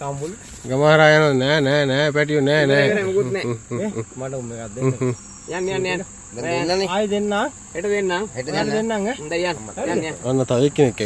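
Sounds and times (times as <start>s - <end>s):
high-pitched insect drone: 0.0s - 11.0s
man talking: 0.0s - 11.0s.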